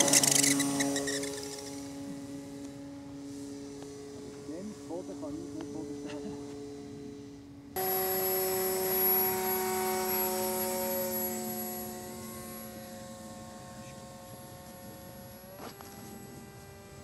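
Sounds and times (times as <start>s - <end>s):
model airplane motor whine: 0.0s - 17.0s.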